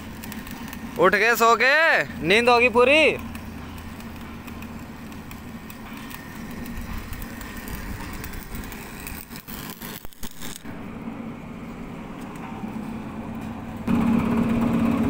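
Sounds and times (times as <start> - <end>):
crackles: 0.0 - 14.0
machinery humming: 0.0 - 15.0.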